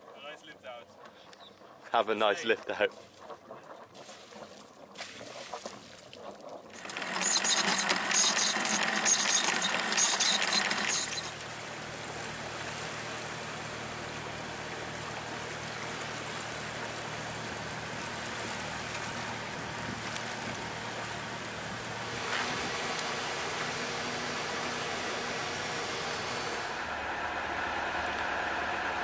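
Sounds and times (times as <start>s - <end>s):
water rushing past a boat: 1.8s - 29.0s.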